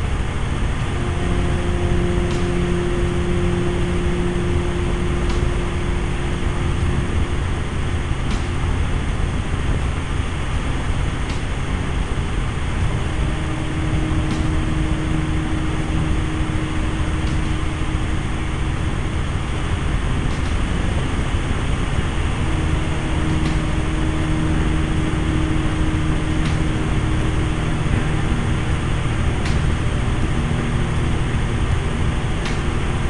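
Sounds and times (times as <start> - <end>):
helicopter engine and rotor drone: 0.0 - 33.0
low hum: 0.0 - 33.0.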